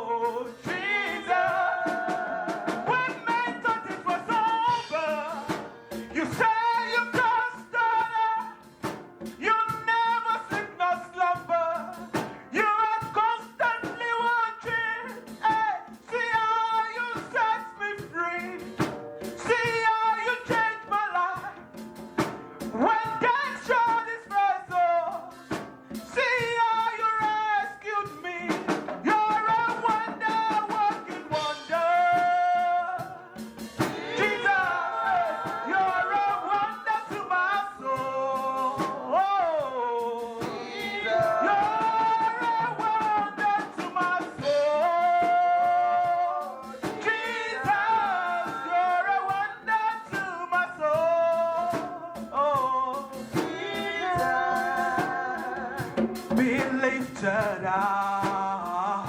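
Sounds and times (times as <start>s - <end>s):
drum kit: 0.0s - 59.0s
instrumental backing: 0.0s - 59.0s
person singing gospel song: 0.0s - 59.0s.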